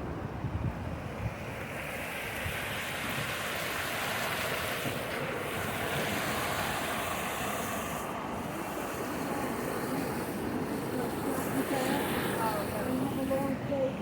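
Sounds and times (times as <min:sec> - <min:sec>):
stream water rushing over rocks: 0:01.0 - 0:14.0.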